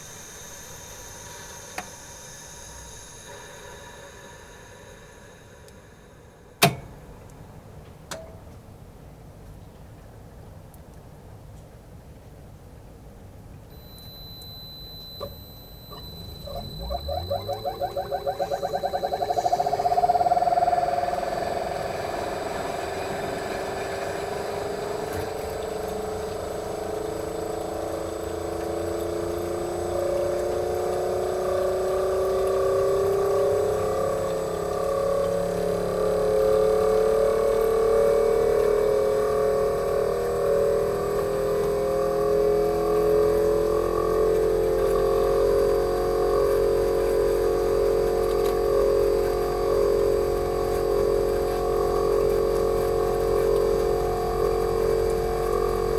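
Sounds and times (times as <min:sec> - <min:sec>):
heat pump compressor humming: 0:00.0 - 0:07.5, 0:13.7 - 0:55.9.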